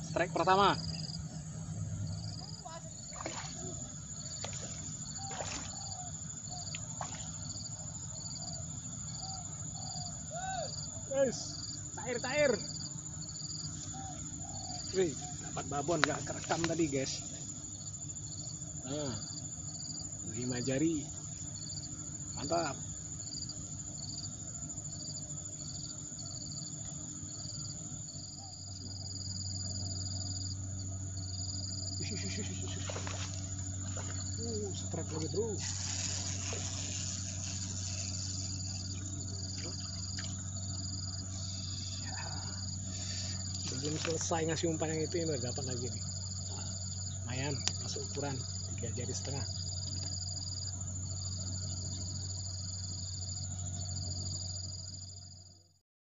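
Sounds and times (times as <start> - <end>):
continuous high insect buzz: 0.0 - 55.8
pulsed insect chirps: 0.0 - 55.8.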